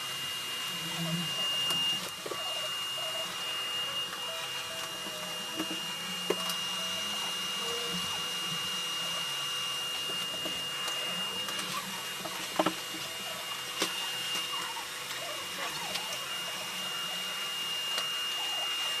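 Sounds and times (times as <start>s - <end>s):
machine hum with high whine: 0.0s - 19.0s.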